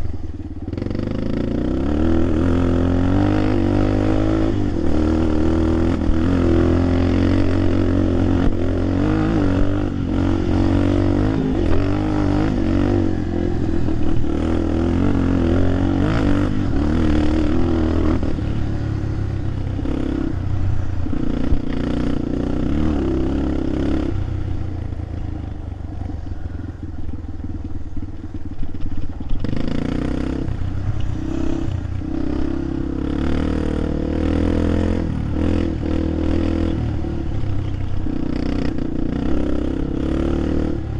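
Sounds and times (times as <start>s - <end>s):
vehicle engine under load: 0.0s - 40.9s.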